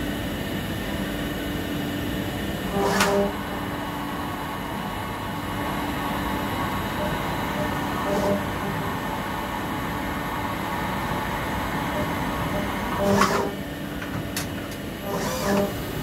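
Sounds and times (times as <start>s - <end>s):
lathe machine hum: 0.0s - 16.0s
tool turret whirr: 2.6s - 16.0s.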